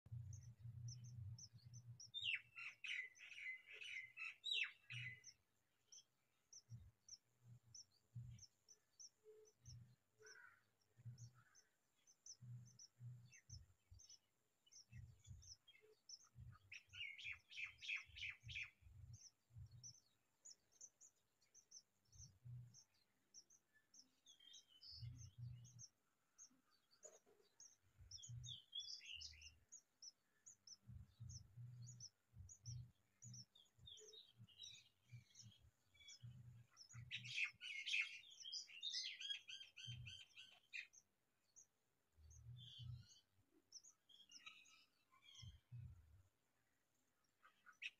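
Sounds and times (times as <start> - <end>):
sparrows chirping: 0.1 - 47.9.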